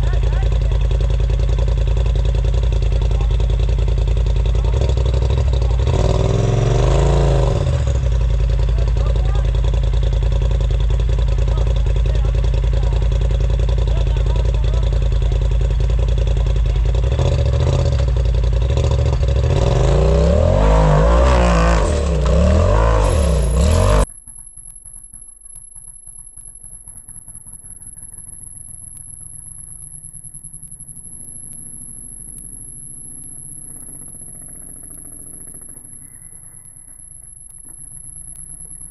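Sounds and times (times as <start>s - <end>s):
off-road vehicle engine revving: 0.0s - 24.2s, 26.6s - 38.9s
distant engine: 0.0s - 38.9s.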